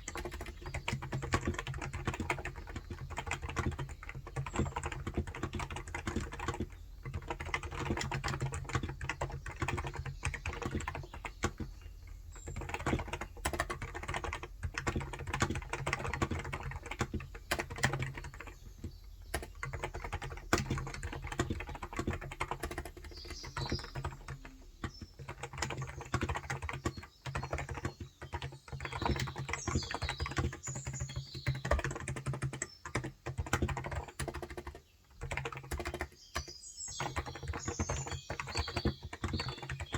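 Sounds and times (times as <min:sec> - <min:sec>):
birds chirping faintly: 0:00.0 - 0:39.9
soft keyboard typing: 0:00.0 - 0:39.9.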